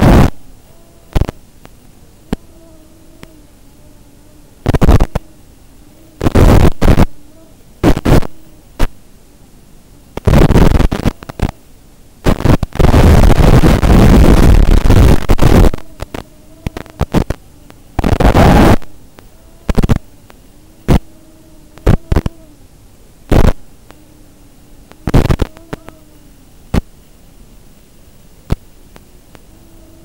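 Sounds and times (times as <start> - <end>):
bursts of harsh static: 0.0 - 30.0
faint steady hiss: 0.0 - 30.0
faint wavering hum: 0.0 - 30.0.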